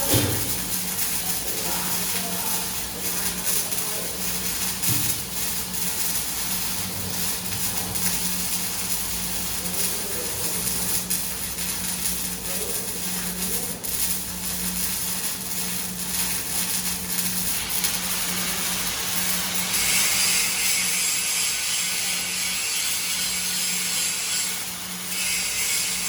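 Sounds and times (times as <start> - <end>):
welding arc crackling: 0.0 - 26.0.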